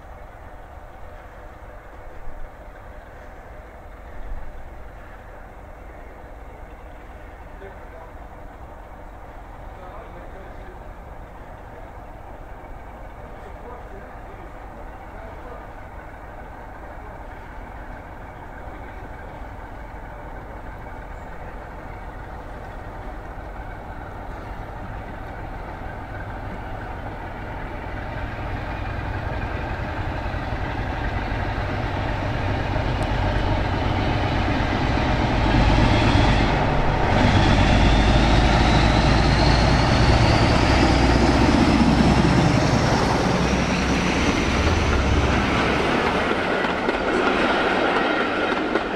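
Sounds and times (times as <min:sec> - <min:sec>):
diesel locomotive passing: 0:00.0 - 0:48.9.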